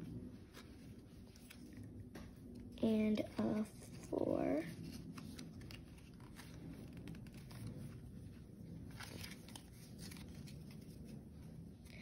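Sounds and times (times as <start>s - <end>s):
trading cards rustling and clicking: 0.6s - 12.0s.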